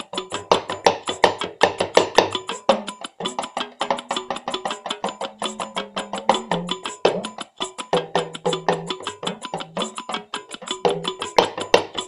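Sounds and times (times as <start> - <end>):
talking drum beaten in fast strokes: 0.0 - 12.0.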